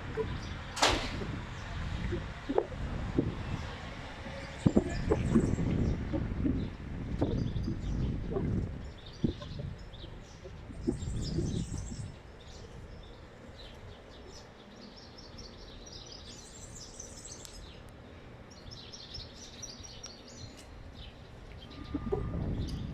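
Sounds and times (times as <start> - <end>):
wind buffeting microphone: 0.0 - 14.6, 17.5 - 22.9
small birds chirping: 3.4 - 22.9.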